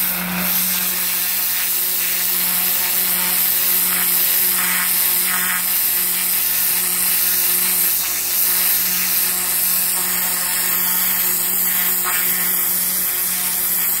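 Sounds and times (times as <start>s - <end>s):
pressure washer water hissing: 0.0s - 14.0s.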